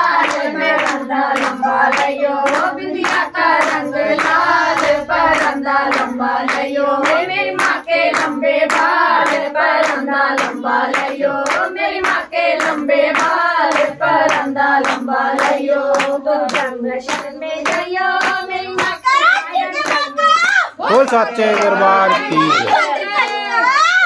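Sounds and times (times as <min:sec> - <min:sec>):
devotional singing: 0:00.0 - 0:20.2, 0:20.8 - 0:24.0
hand-clapping to the beat: 0:00.0 - 0:24.0.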